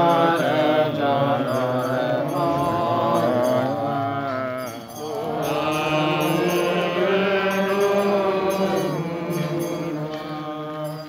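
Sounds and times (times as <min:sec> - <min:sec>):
voices singing a hymn: 0:00.0 - 0:11.0.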